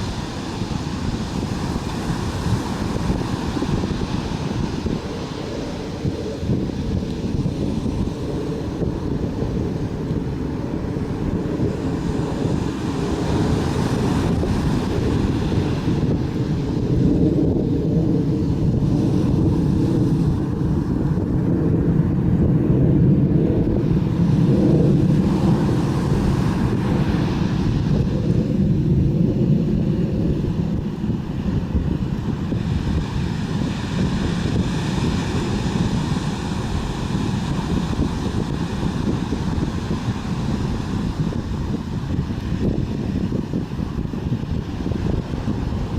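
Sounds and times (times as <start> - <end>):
ocean surf: 0.0 - 45.9
wind buffeting microphone: 0.0 - 45.9.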